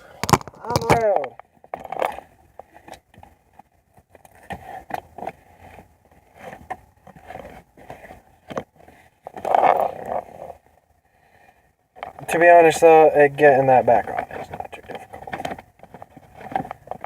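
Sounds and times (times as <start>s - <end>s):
car interior part scraping and clicking: 0.2s - 10.6s, 13.4s - 17.0s.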